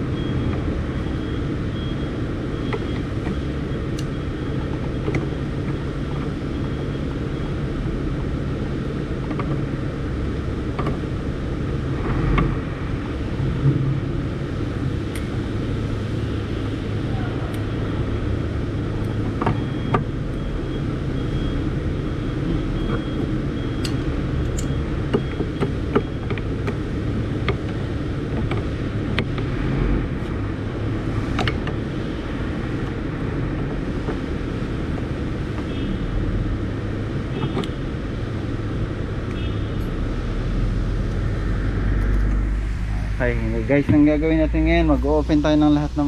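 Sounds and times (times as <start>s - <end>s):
low engine hum: 0.0s - 46.0s.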